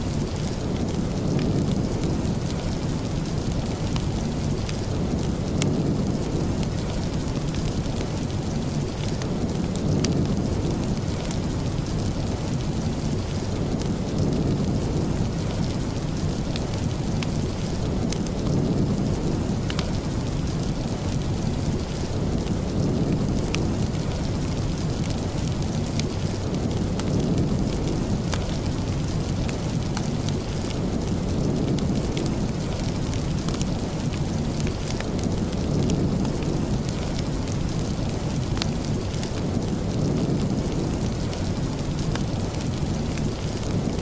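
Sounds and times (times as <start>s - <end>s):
steady rain: 0.0s - 44.0s.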